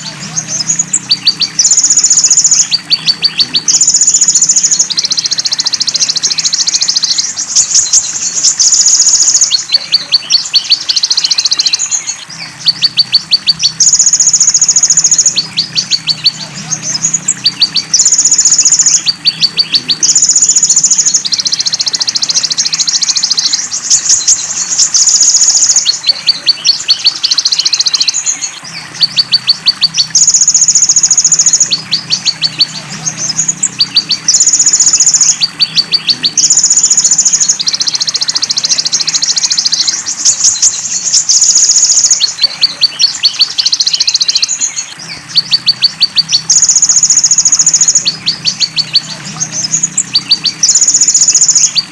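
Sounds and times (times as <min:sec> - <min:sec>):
bird singing buzzy trills: 0:00.0 - 0:51.9
bird ticking notes: 0:00.0 - 0:51.9.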